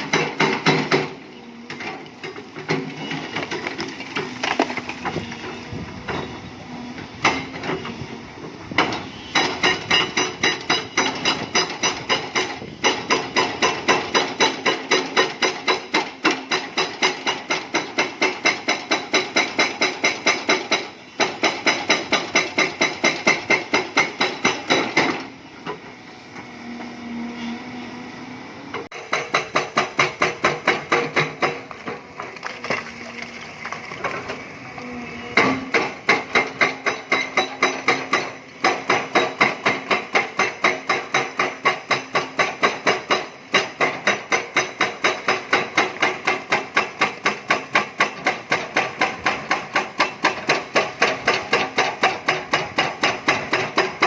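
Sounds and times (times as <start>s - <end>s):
hydraulic breaker hammering rock: 0.0s - 6.4s, 8.7s - 25.8s, 28.9s - 32.9s, 35.3s - 54.0s.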